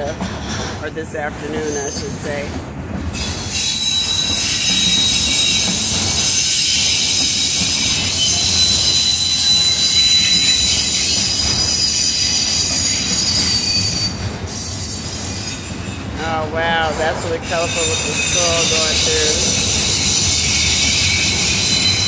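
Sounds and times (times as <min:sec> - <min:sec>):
low rumble of train cars: 0:00.0 - 0:22.0
train wheels squealing on rails: 0:00.0 - 0:22.0.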